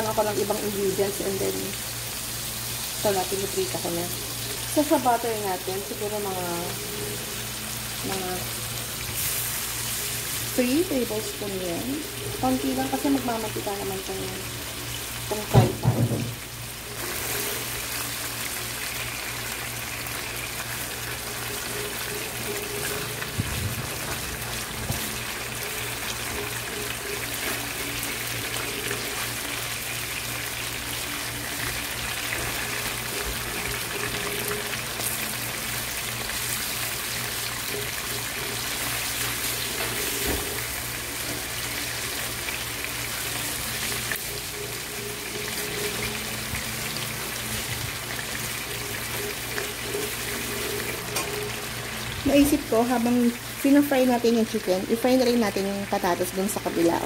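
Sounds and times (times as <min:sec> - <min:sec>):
chicken sizzling in pan: 0:00.0 - 0:57.0.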